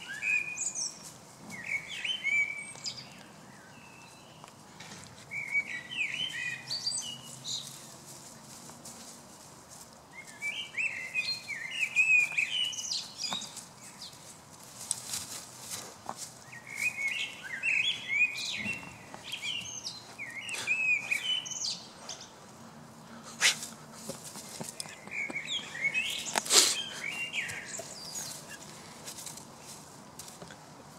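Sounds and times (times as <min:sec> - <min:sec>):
small birds chirping: 0:00.0 - 0:09.5, 0:10.1 - 0:30.6.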